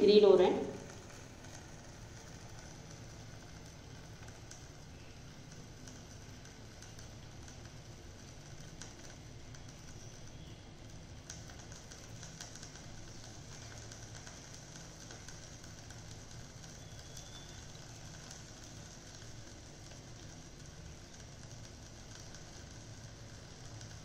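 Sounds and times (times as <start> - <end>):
steady low hum: 0.0 - 24.0
sandwiches sizzling on grill: 0.6 - 24.0.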